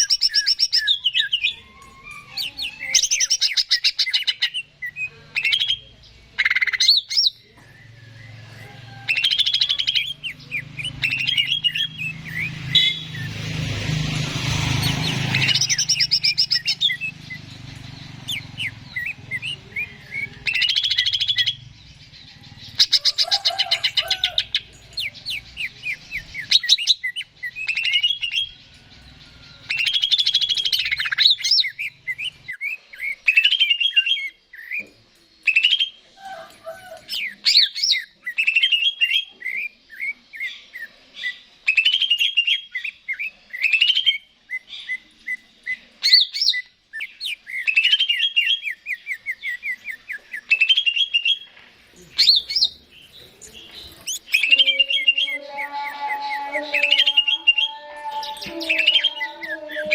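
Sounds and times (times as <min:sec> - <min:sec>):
bird singing chirps and whistles: 0:00.0 - 0:08.5, 0:09.1 - 0:13.4, 0:14.8 - 0:21.6, 0:22.7 - 0:28.6, 0:29.5 - 0:34.8, 0:35.4 - 0:36.0, 0:37.5 - 0:51.5, 0:52.2 - 0:59.9.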